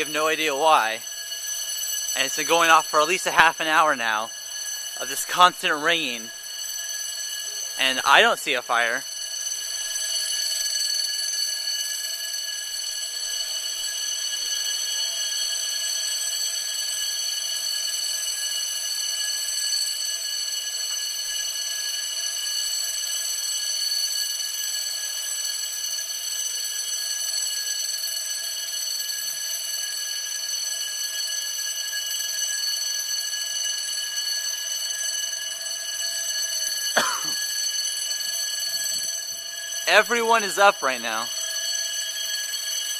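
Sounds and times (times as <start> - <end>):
fire alarm ringing: 0.0 - 42.9.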